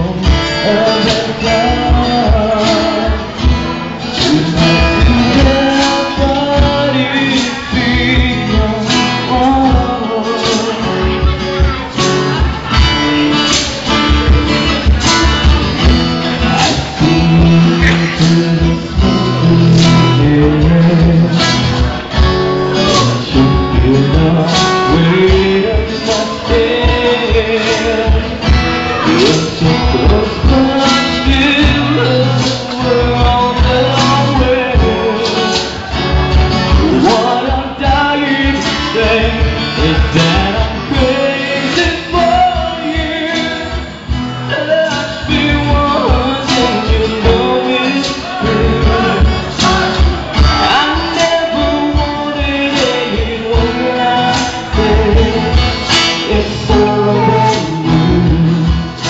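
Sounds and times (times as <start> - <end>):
band playing a song: 0.0 - 59.0
person singing: 0.0 - 59.0.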